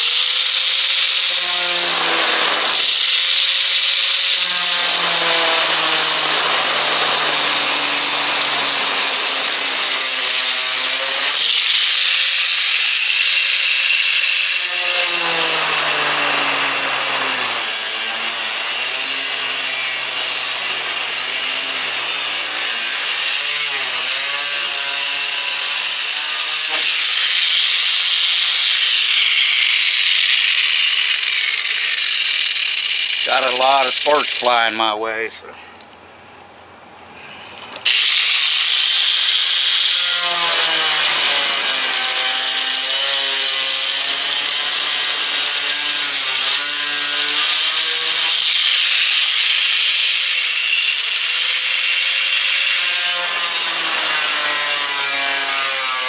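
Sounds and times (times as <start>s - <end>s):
angle grinder cutting metal: 0.0s - 35.2s, 37.8s - 56.0s.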